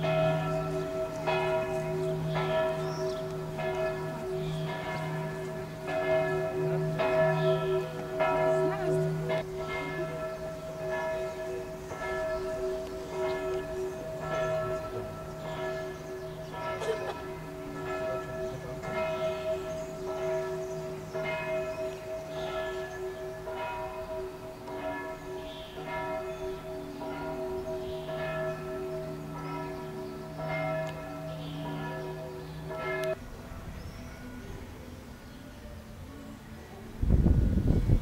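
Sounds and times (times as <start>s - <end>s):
bells ringing: 0.0s - 35.1s.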